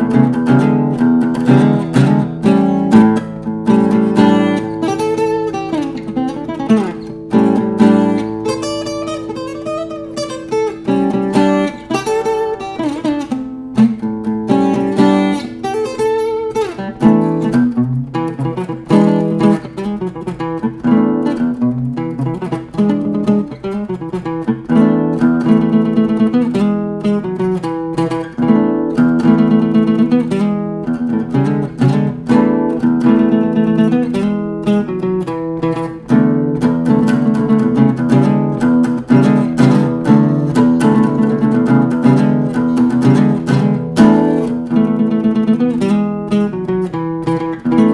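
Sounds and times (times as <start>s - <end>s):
solo acoustic guitar: 0.0s - 47.9s.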